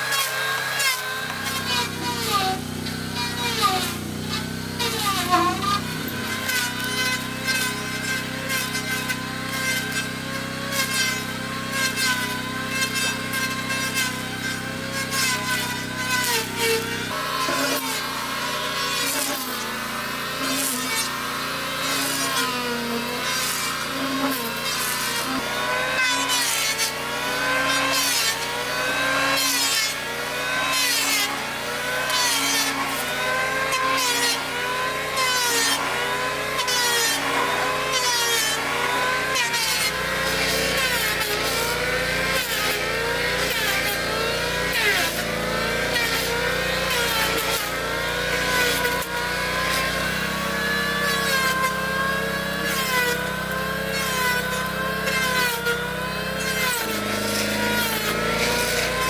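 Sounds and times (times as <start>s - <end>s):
electric hand planer whining: 0.0s - 59.0s
second planer humming: 0.0s - 59.0s.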